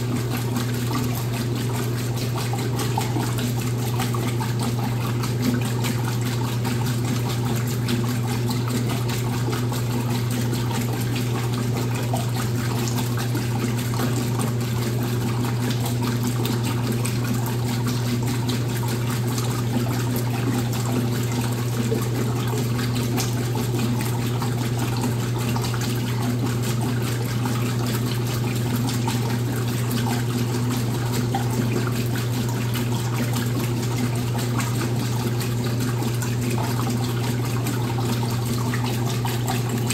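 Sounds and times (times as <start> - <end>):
washing machine motor hum: 0.0 - 39.9
water rushing in machine: 0.0 - 39.9.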